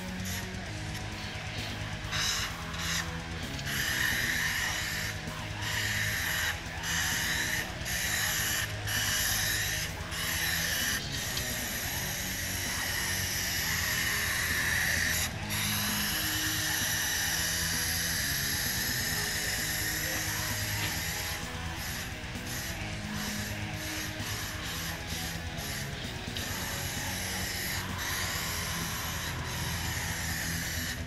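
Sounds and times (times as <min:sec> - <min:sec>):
background music: 0:00.0 - 0:31.0
paint spray gun hissing: 0:00.0 - 0:31.0.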